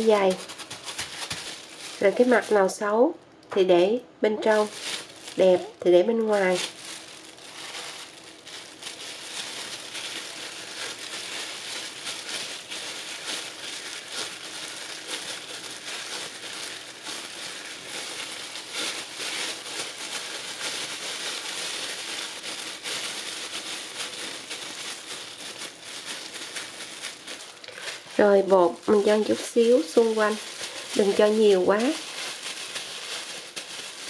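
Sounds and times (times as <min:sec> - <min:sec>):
plastic gloves crinkling: 0:00.0 - 0:03.0, 0:04.3 - 0:34.0.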